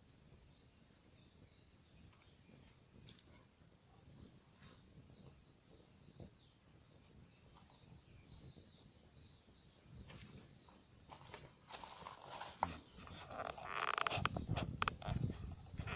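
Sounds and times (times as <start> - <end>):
rustle: 0.0 - 15.9.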